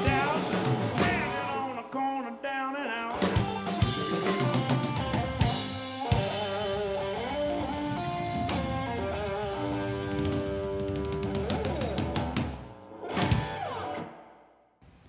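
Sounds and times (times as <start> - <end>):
drum kit: 0.0 - 1.8, 3.0 - 13.6
electric guitar notes: 0.0 - 14.3.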